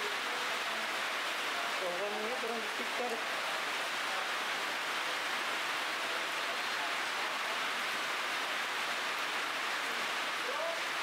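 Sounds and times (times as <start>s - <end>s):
heavy rain on foliage and stone: 0.0s - 11.0s.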